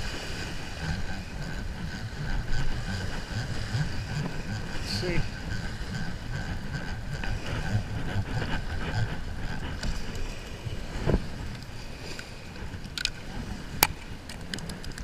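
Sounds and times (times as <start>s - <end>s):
fishing reel whirring: 0.0s - 15.0s
wind buffeting microphone: 0.0s - 15.0s.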